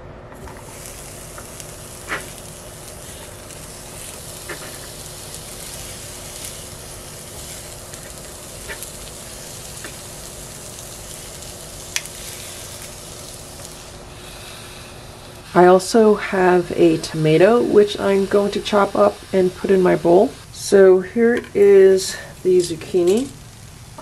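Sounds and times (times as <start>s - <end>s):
vegetables sizzling on a griddle: 0.4s - 24.0s.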